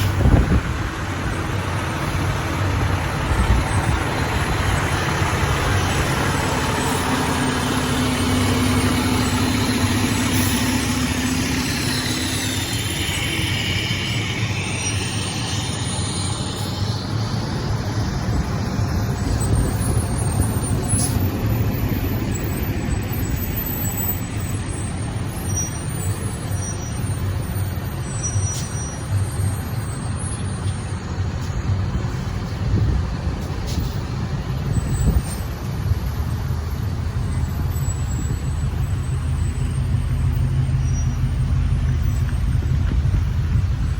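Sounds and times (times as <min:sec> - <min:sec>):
truck engine rumbling: 0:00.0 - 0:43.9.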